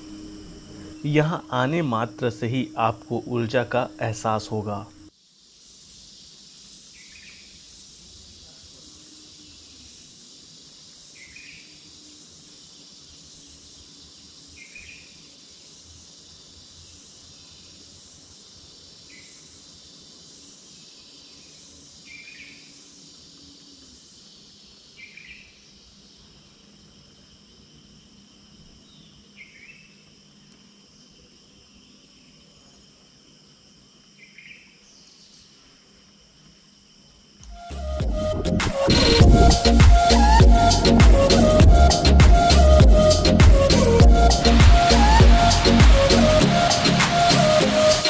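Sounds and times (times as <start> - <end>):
crickets chorus: 0.0 - 48.0.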